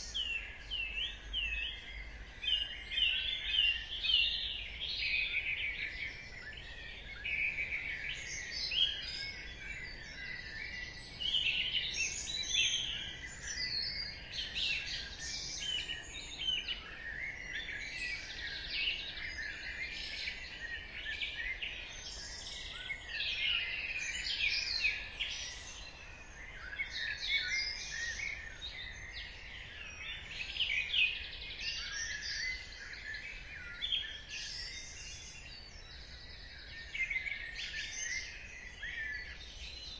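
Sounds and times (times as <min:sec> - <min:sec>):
many songbirds singing: 0:00.0 - 0:39.9.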